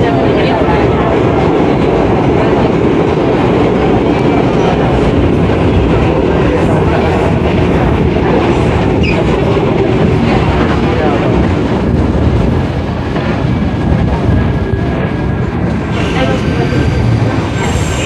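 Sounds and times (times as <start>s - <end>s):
subway train rumbling: 0.0s - 18.0s
wheels clickety-clack on track: 0.0s - 18.0s.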